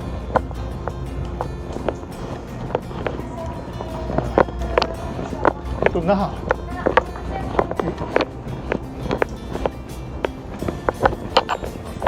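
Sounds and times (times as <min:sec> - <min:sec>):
plucked background music: 0:00.0 - 0:12.0.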